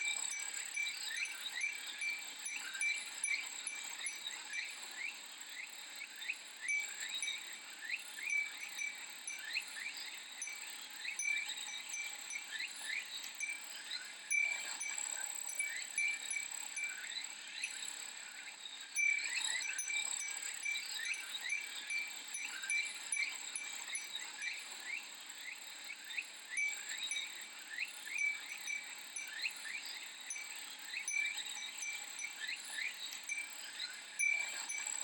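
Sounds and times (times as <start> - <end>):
wind chime tinkling: 0.0 - 4.7, 6.6 - 17.8, 19.0 - 25.0, 26.5 - 35.0
cicadas droning: 0.0 - 35.0.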